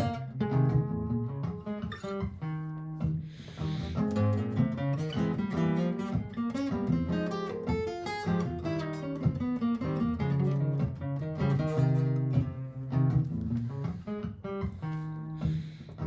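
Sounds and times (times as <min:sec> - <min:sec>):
looped guitar accompaniment: 0:00.0 - 0:16.0
picked acoustic guitar notes: 0:00.0 - 0:16.0.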